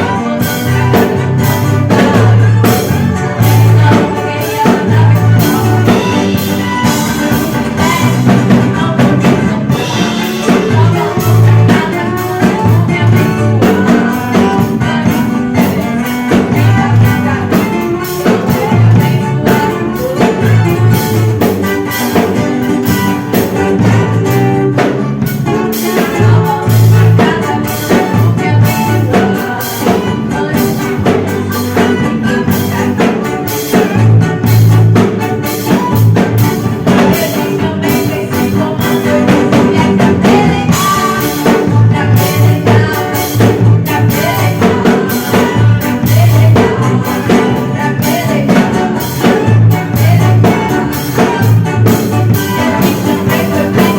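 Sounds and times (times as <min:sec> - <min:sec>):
drum kit: 0:00.0 - 0:53.9
guitar: 0:00.0 - 0:53.9.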